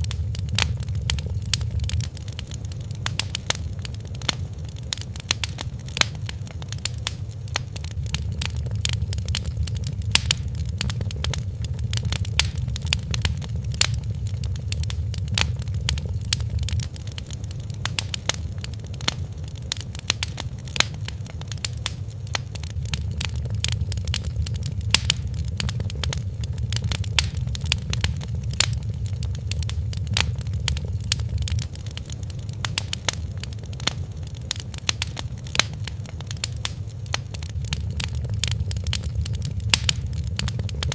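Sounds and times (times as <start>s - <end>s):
fire crackling and popping: 0.0s - 40.9s
steady low rumble: 0.0s - 40.9s.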